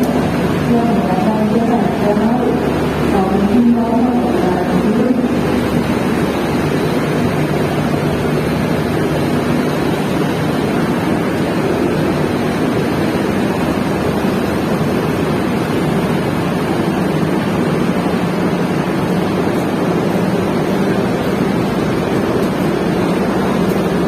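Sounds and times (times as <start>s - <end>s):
moving train rumble: 0.0s - 24.0s.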